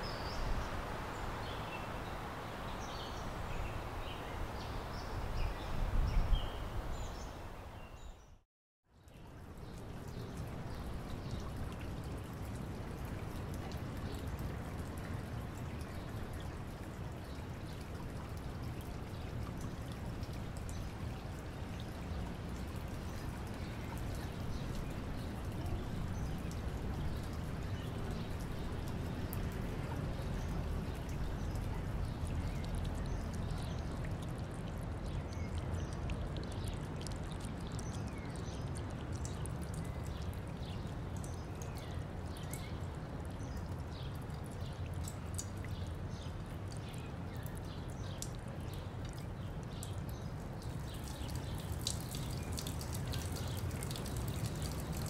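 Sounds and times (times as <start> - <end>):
water trickling from gutter: 8.9 - 55.0.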